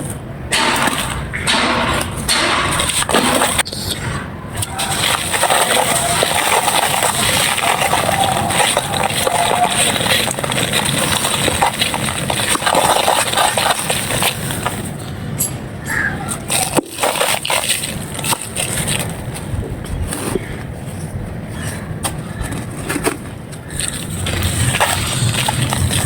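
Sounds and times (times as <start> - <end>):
dry clay crumbling and crunching: 0.0 - 15.0, 16.3 - 20.6, 21.6 - 26.0.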